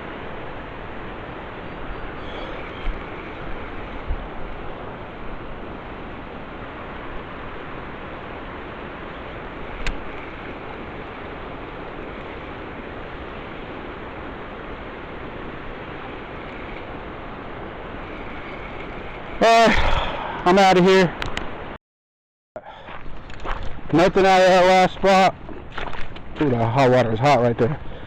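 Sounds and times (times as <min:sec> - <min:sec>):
river water rushing: 0:00.0 - 0:21.8, 0:22.8 - 0:28.0.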